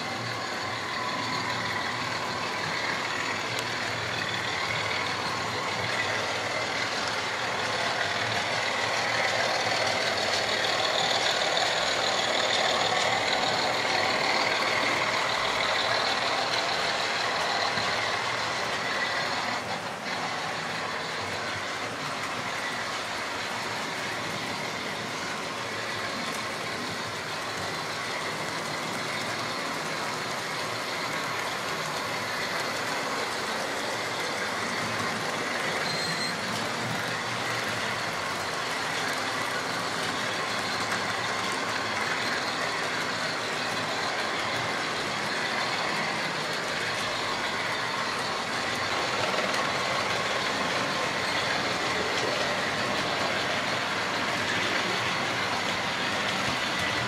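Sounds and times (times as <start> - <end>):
electric motors whirring: 0.0 - 57.0
wheels rattling over track: 0.0 - 57.0.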